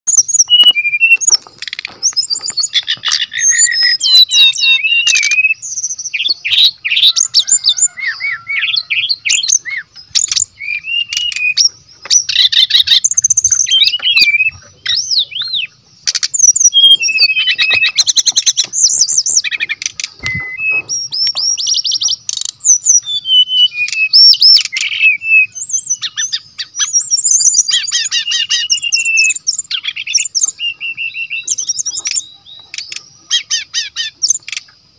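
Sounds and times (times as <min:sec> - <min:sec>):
bird singing warbled trills: 0:00.1 - 0:34.9.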